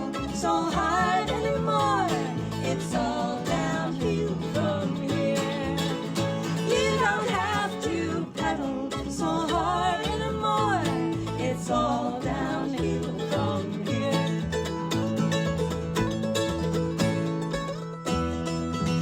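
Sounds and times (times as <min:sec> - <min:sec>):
acoustic folk band playing: 0:00.0 - 0:19.0.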